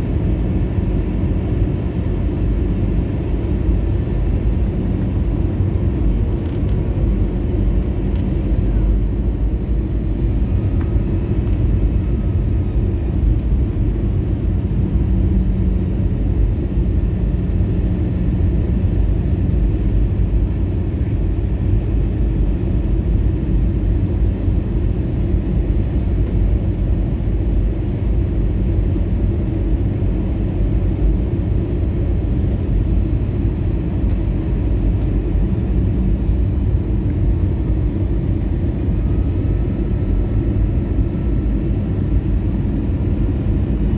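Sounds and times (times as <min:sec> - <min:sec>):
airplane cabin rumble: 0:00.0 - 0:43.9.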